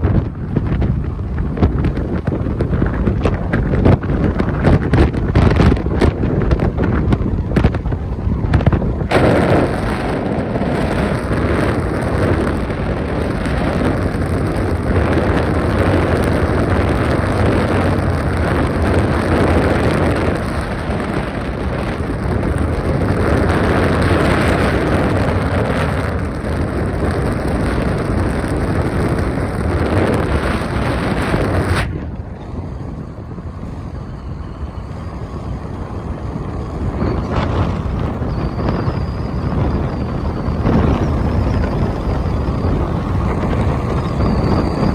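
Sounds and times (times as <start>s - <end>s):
strong wind buffeting microphone: 0.0s - 44.9s.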